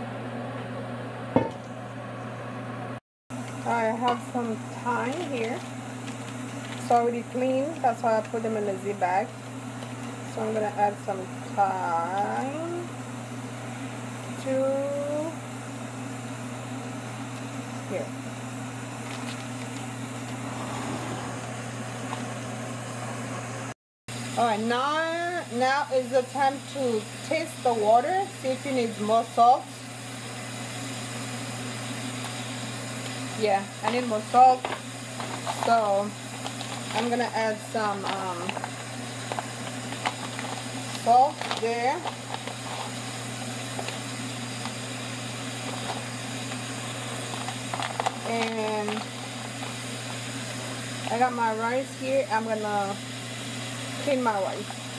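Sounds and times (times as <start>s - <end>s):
pot simmering hiss: 3.4s - 54.9s.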